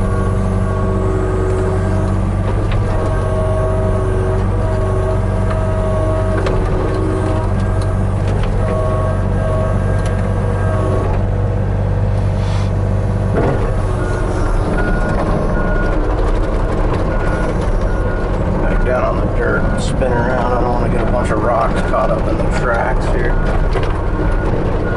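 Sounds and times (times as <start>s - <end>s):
diesel engine running: 0.0s - 24.9s
hydraulic whine: 0.0s - 24.9s.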